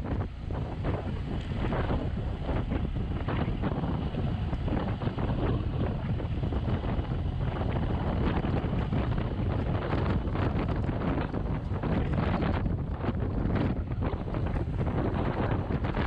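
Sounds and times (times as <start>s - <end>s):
car engine running: 0.0s - 16.0s
wind noise on microphone: 0.0s - 16.0s.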